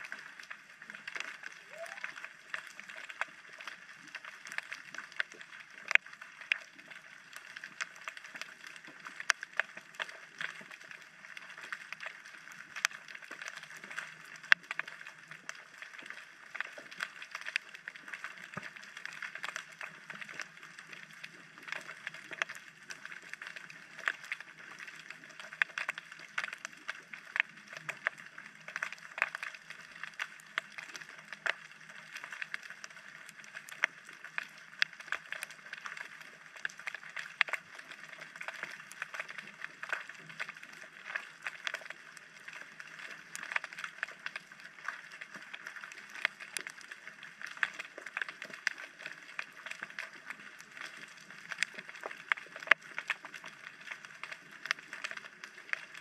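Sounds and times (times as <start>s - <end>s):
underwater clicks and crackles: 0.0s - 56.0s.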